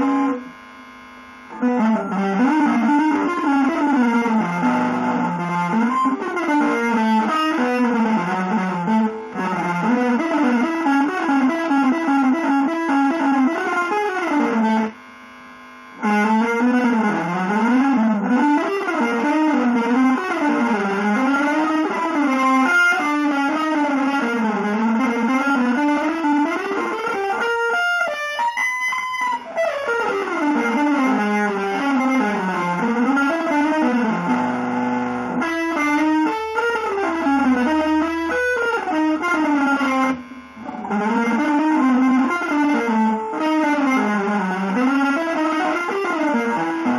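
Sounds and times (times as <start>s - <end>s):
electric guitar fast runs: 0.0s - 46.9s.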